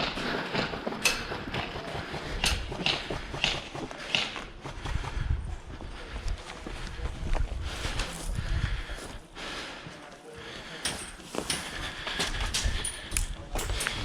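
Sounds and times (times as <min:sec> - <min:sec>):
footsteps on hard ground: 0:02.6 - 0:14.0.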